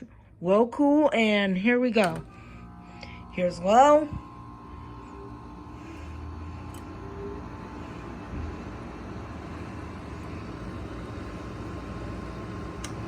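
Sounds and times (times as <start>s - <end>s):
air conditioner fan humming: 0.0s - 13.0s.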